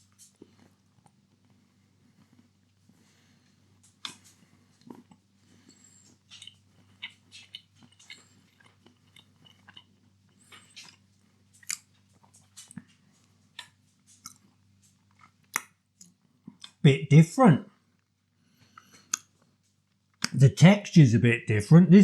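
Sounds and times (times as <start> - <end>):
mouth chewing sweets: 0.0 - 22.0.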